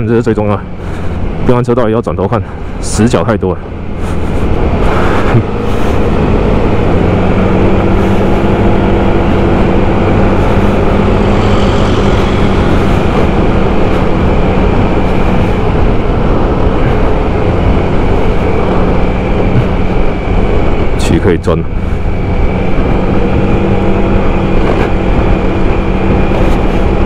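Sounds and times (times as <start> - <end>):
motorcycle engine drone: 0.0 - 27.0
wind and road noise: 0.0 - 27.0.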